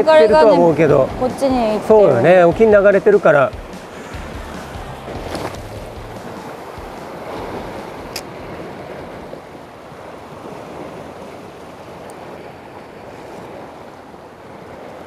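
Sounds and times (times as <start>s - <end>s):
sea swell against rocks: 0.0s - 15.0s
wind buffeting microphone: 0.0s - 15.0s.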